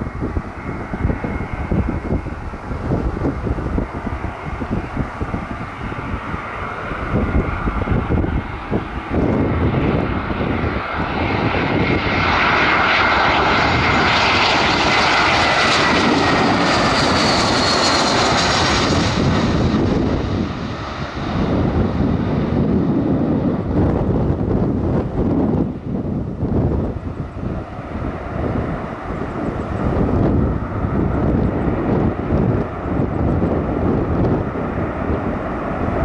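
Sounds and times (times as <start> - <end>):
airliner engines passing by: 0.0 - 36.0
high engine whine: 0.0 - 36.0
wind buffeting microphone: 0.0 - 36.0.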